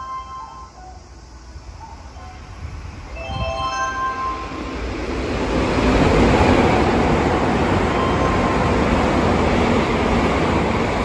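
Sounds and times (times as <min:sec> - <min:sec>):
train passing: 0:00.0 - 0:11.0.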